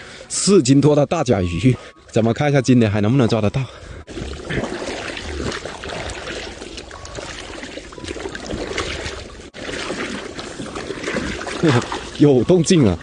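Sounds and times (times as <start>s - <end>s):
water splashing and trickling: 1.4s - 13.0s.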